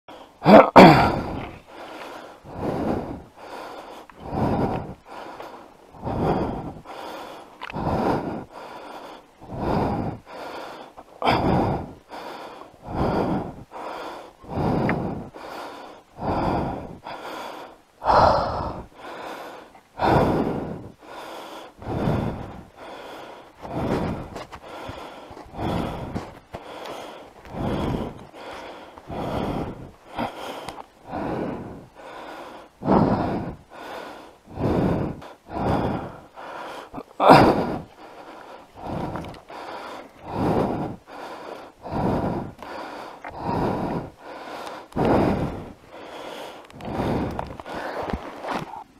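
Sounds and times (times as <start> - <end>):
heavy breathing: 0.1 - 48.9.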